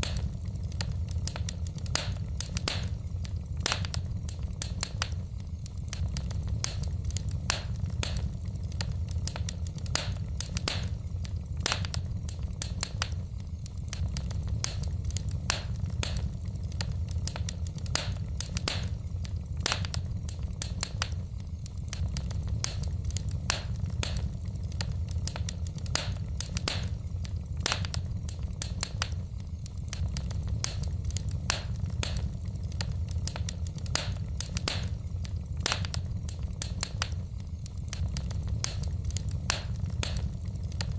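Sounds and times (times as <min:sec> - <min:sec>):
fire popping: 0:00.0 - 0:40.9
low rumble of flames: 0:00.0 - 0:40.9
wood fire crackling: 0:00.0 - 0:40.9.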